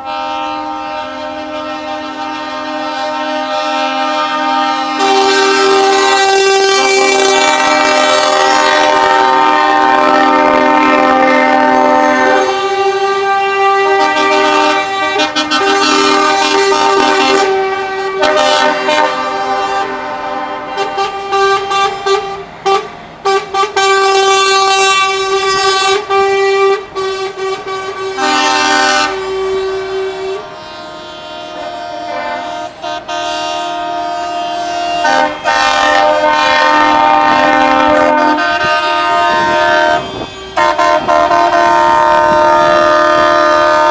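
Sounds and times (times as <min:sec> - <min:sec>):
truck horns blowing chords: 0:00.0 - 0:43.9.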